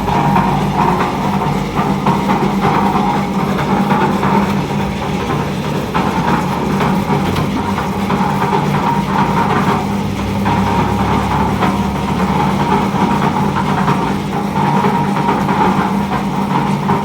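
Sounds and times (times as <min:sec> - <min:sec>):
concrete mixer droning: 0:00.0 - 0:17.0.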